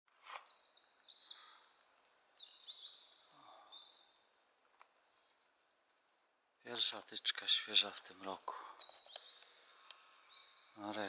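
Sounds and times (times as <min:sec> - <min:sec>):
small songbirds chirping: 0:00.1 - 0:11.0.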